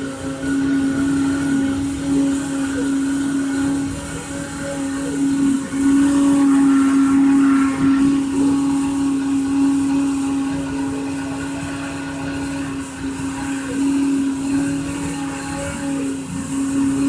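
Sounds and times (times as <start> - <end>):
machine motor humming: 0.0 - 17.0.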